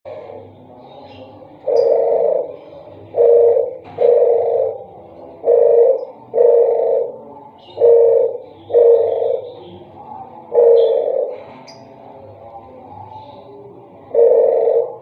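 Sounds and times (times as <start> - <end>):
dove cooing: 0.1 - 11.9, 13.0 - 15.0.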